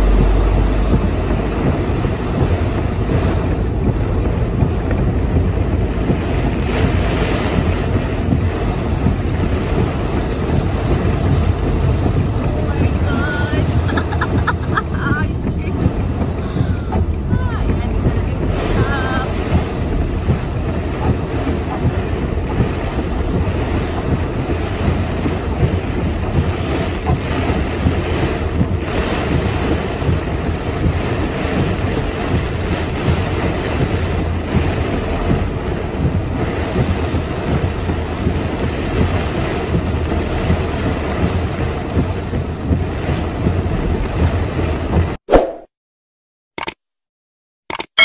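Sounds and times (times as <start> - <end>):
deep rumble: 0.0 - 45.2
heavy rain: 0.0 - 45.2
strong storm wind: 0.0 - 45.2.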